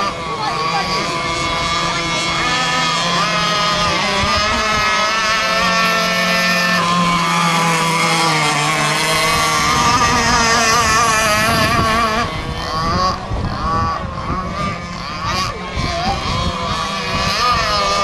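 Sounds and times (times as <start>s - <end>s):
model boat engine whine: 0.0s - 18.0s.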